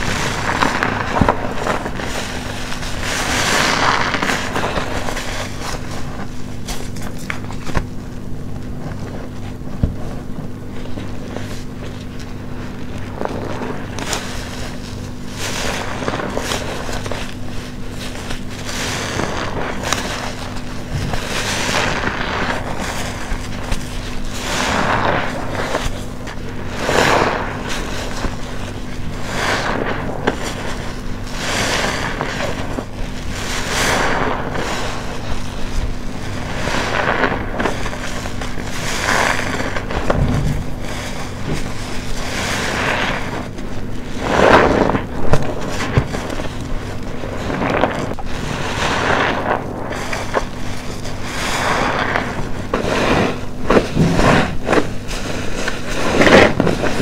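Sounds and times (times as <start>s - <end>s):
soapy sponge squelching: 8.8s - 57.0s.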